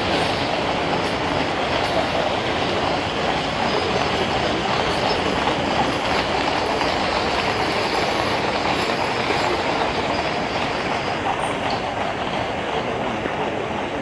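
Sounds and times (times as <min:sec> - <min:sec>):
gun carriage wheels rumbling: 0:00.0 - 0:14.0
horse hooves clattering on road: 0:00.0 - 0:14.0.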